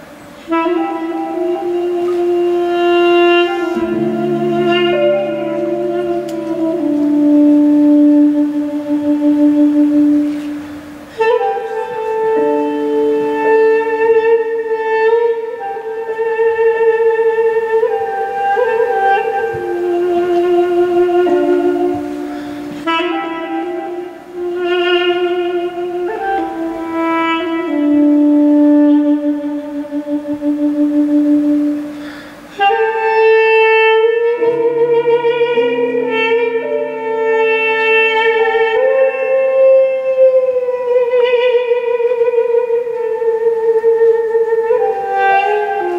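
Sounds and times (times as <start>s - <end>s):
electric keyboard sustained tone: 0.0s - 45.9s
duduk mournful melody: 0.4s - 45.9s.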